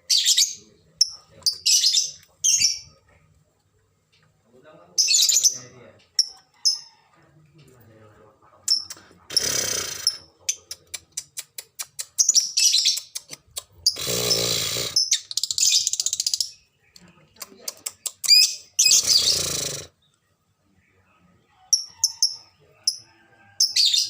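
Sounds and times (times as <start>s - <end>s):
lovebirds chirping and screeching: 0.0s - 3.2s, 4.9s - 7.1s, 8.6s - 21.0s, 21.6s - 24.0s.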